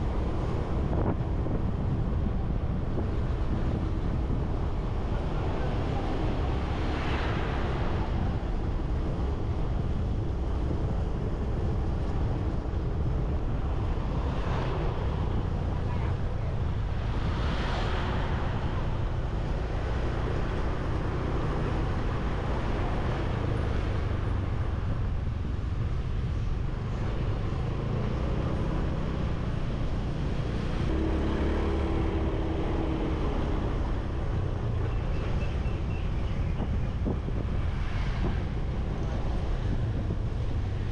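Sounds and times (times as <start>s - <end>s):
street traffic: 0.0s - 40.9s
wind rumbling on microphone: 0.0s - 40.9s.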